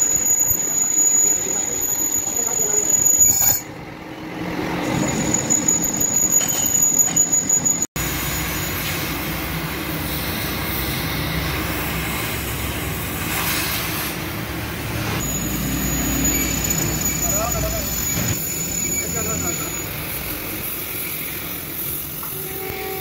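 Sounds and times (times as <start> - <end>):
metalworking machine squealing: 0.0 - 3.9, 4.7 - 13.1, 15.2 - 23.0
rough machining noise: 0.1 - 23.0.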